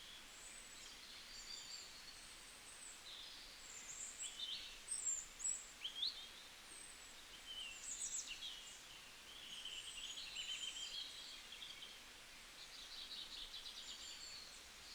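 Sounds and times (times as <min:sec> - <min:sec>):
faint outdoor background noise: 0:00.0 - 0:14.9.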